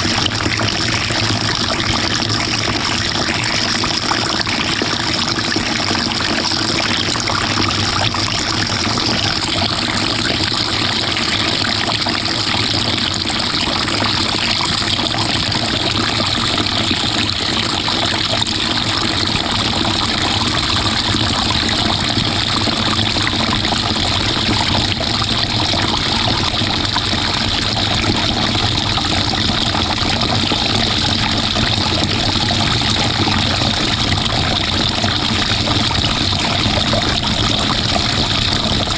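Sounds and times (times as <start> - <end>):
washing machine water rushing: 0.0 - 38.9.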